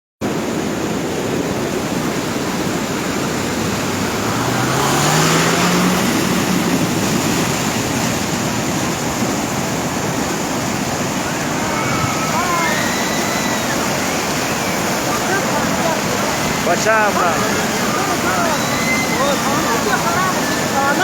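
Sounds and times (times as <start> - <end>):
rushing floodwater: 0.2 - 21.0
vehicle engine: 1.6 - 12.5, 13.2 - 21.0.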